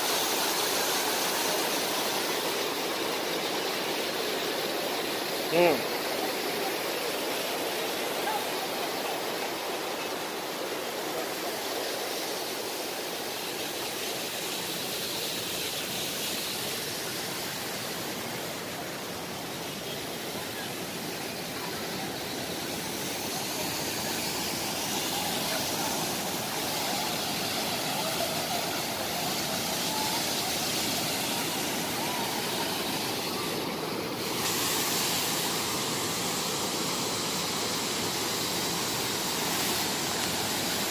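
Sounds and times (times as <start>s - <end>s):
river and waterfall rushing: 0.0s - 40.9s.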